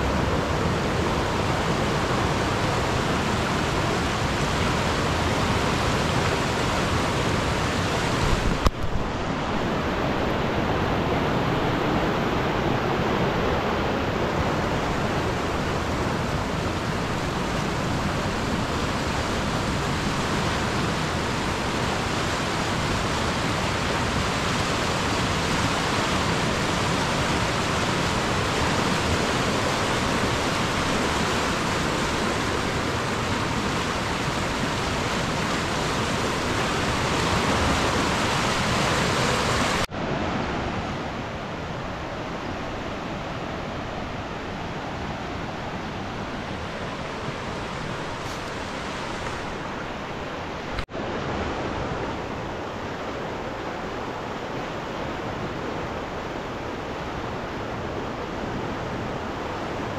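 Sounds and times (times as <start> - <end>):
raging river rushing: 0.0 - 59.9.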